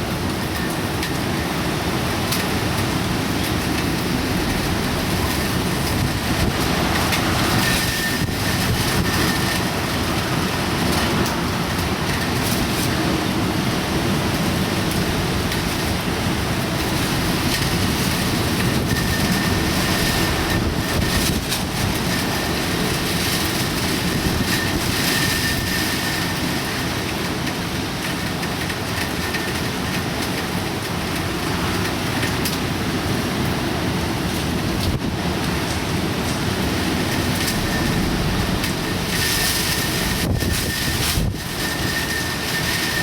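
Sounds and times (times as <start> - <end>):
roar of wind and rain: 0.0 - 43.0.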